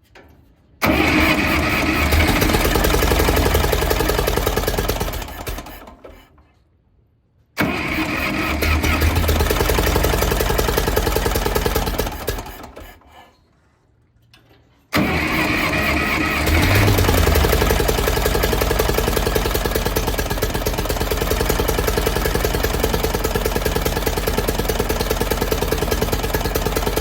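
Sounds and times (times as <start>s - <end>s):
tractor engine running: 0.8s - 6.2s, 7.6s - 13.0s, 15.0s - 27.0s.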